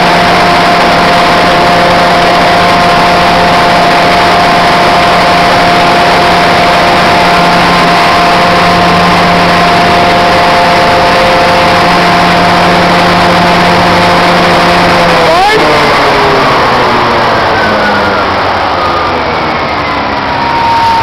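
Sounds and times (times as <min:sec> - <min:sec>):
diesel truck engine roaring: 0:00.0 - 0:21.0.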